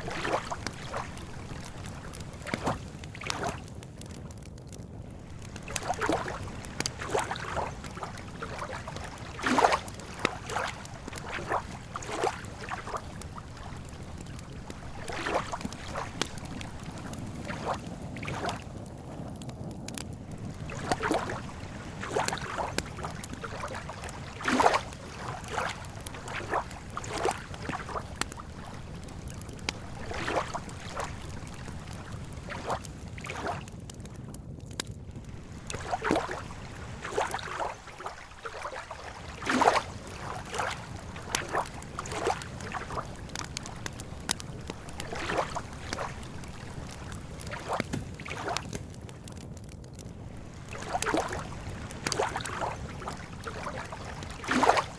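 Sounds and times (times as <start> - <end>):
water lapping: 0.0 - 3.8, 5.1 - 18.9, 20.2 - 33.7, 35.2 - 49.0, 50.2 - 54.9
campfire crackling and popping: 0.0 - 54.9.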